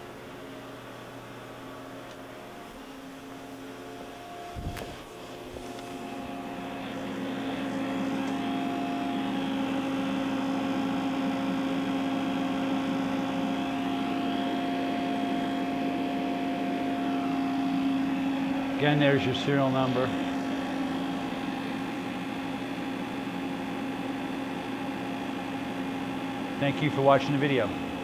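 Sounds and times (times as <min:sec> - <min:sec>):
machine electrical hum and whir: 0:00.0 - 0:28.0.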